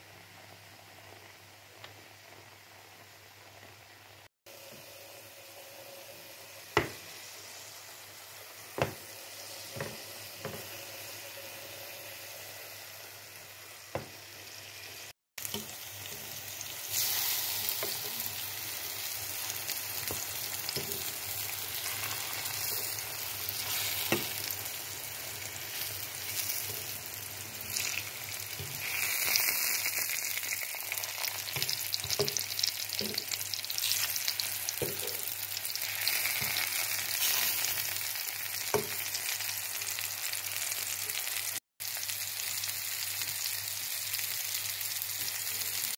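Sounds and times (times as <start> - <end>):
mushrooms sizzling in oil: 0.1 - 45.9.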